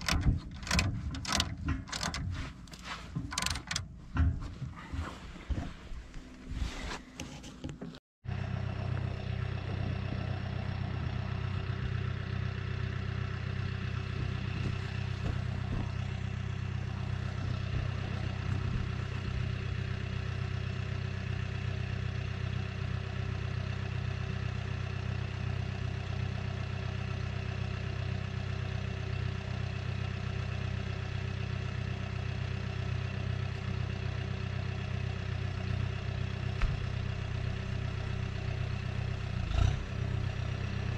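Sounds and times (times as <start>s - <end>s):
tractor engine running steadily: 0.0s - 6.4s, 7.0s - 40.9s.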